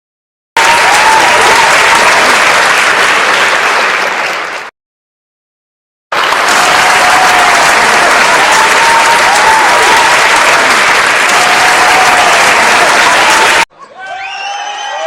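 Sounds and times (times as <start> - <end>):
crowd applause and cheering: 0.6 - 4.7, 6.1 - 15.0.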